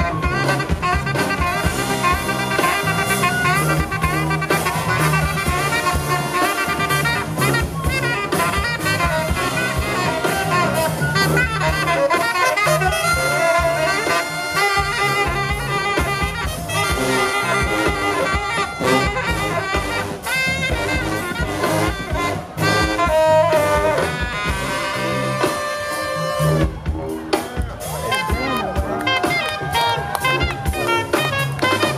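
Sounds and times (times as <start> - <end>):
drums keeping busy beat: 0.0 - 31.9
sousaphones pumping bass line: 0.0 - 31.9
trumpet and saxophones: 0.0 - 31.9.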